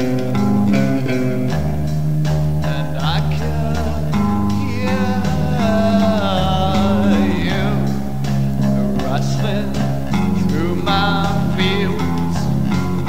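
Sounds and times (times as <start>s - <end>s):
electric bass guitar low notes: 0.0s - 13.0s
gliding higher melody: 0.0s - 13.0s.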